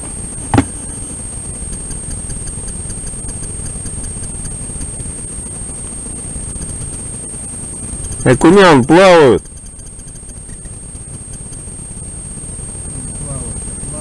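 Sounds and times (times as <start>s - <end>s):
faint high-pitched whine: 0.0s - 14.0s
low rumbling noise: 0.0s - 14.0s.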